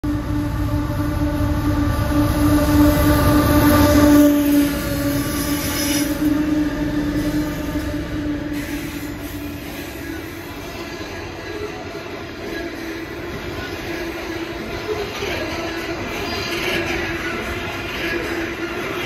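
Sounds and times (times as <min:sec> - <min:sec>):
locomotive engines droning: 0:00.0 - 0:19.0
train rumble: 0:00.0 - 0:19.0
wheels hissing on rails: 0:02.1 - 0:19.0.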